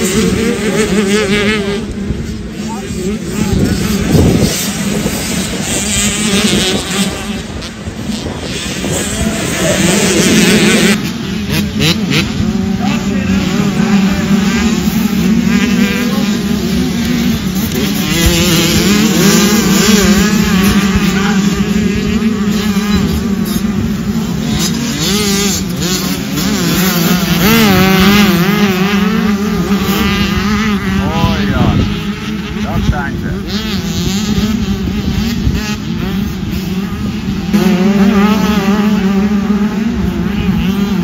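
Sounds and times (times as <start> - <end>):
two-stroke motocross bikes revving: 0.0 - 41.0.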